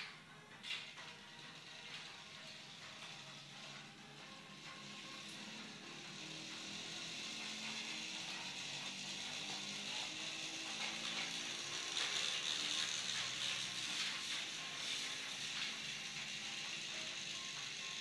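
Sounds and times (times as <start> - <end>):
toy train motor whirring: 0.0 - 18.0
wheels rattling on plastic track: 0.0 - 18.0.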